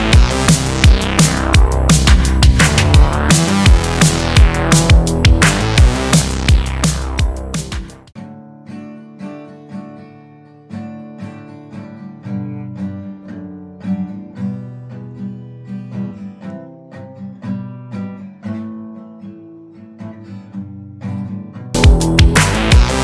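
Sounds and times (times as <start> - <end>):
acoustic guitar chords: 0.0 - 23.0.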